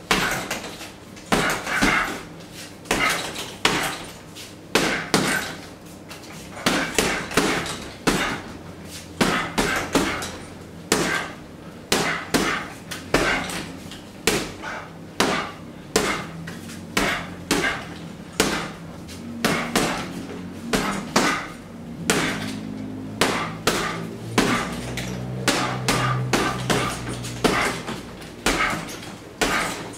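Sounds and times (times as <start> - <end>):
boxing gloves punching heavy bag: 0.0 - 29.9.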